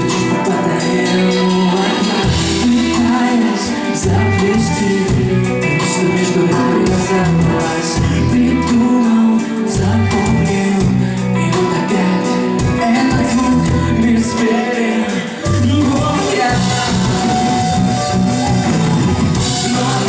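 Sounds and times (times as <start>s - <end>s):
band playing live music: 0.0s - 20.0s.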